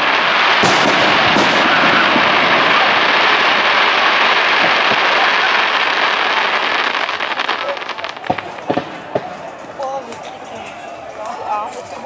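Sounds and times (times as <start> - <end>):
sharp firework bangs: 0.0 - 9.7
fireworks crackling and rumbling: 0.0 - 12.0.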